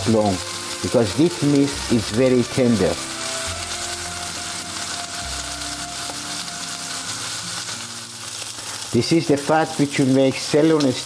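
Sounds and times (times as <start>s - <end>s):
steaks sizzling on a griddle: 0.0s - 11.0s.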